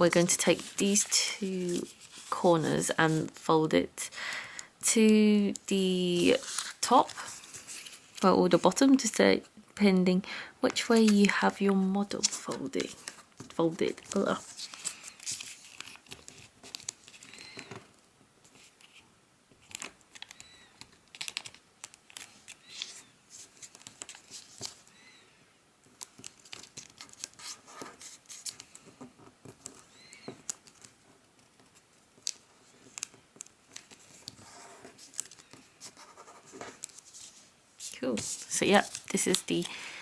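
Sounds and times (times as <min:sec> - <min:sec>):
paper rustling and creasing: 0:00.0 - 0:03.4, 0:05.5 - 0:08.8, 0:10.8 - 0:24.9, 0:25.8 - 0:39.7.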